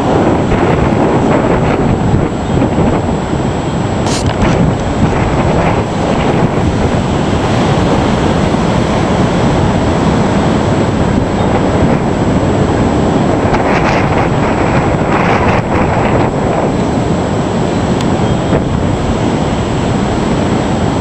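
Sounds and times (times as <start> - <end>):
waves crashing: 0.0 - 21.0
wind buffeting microphone: 0.0 - 21.0.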